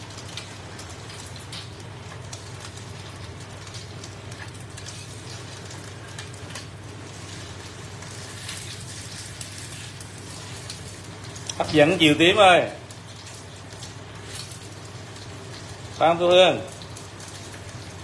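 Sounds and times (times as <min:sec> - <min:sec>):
batter sizzling in hot oil: 0:00.0 - 0:18.0.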